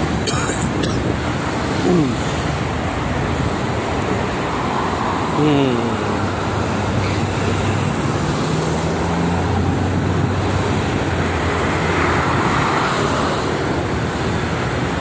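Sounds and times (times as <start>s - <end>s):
truck diesel engines droning: 0.0s - 15.0s
tyre noise of highway traffic: 0.0s - 15.0s.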